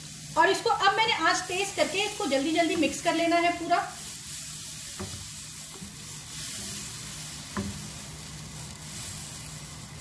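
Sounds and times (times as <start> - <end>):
roux sizzling in a frying pan: 0.0 - 10.0
wooden spatula stirring: 1.9 - 10.0.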